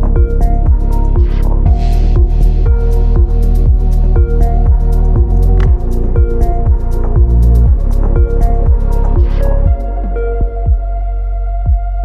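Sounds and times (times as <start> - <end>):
hi-hat ticks: 0.0 - 9.9
deep bass hits: 0.0 - 12.0.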